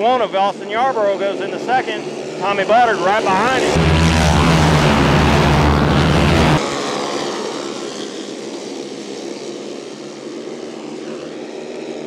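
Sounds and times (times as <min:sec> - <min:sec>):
kart racing engines: 0:00.0 - 0:12.0.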